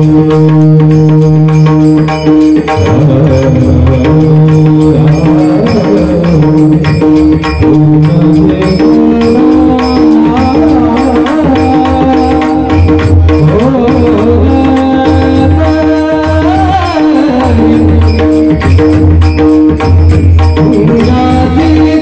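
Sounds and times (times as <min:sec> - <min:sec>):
bright metallic strikes: 0:00.0 - 0:22.0
devotional melody: 0:00.0 - 0:22.0
quick drum beat: 0:00.0 - 0:22.0.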